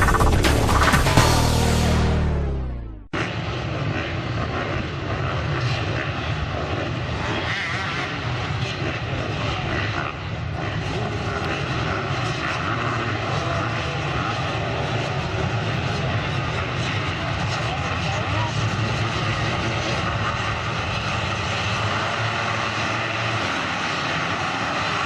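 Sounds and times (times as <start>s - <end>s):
motocross bike engines running: 3.1s - 25.0s.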